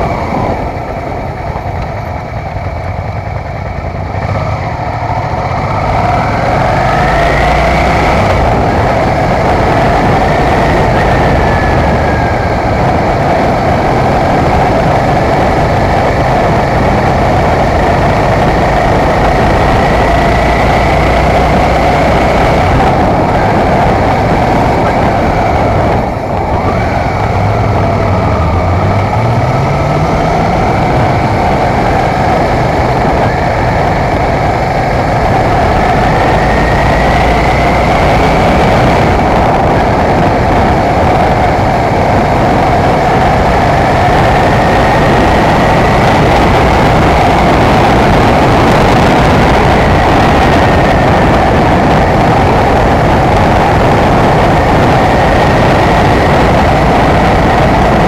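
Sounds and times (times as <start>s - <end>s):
motorcycle engine running: 0.0s - 58.0s
wind rush over microphone: 0.0s - 58.0s.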